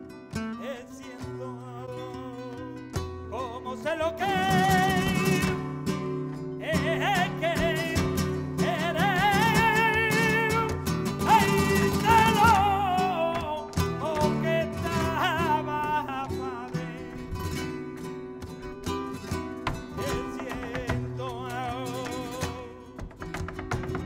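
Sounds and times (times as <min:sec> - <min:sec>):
acoustic flamenco guitars: 0:00.0 - 0:24.0.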